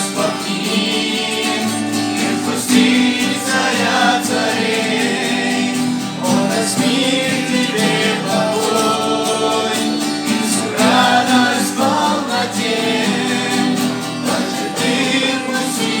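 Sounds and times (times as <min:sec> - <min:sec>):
guitar accompaniment: 0:00.0 - 0:16.0
person singing: 0:00.0 - 0:16.0.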